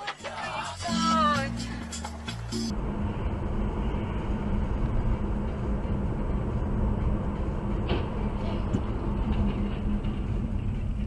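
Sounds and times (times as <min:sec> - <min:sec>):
vehicle rumble: 0:00.0 - 0:11.0
low hum: 0:01.7 - 0:11.0.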